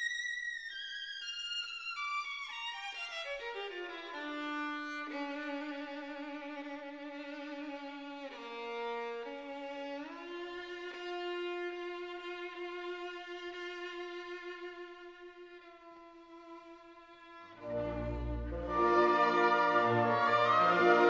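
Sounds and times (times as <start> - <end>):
slow violin melody: 0.0 - 21.0.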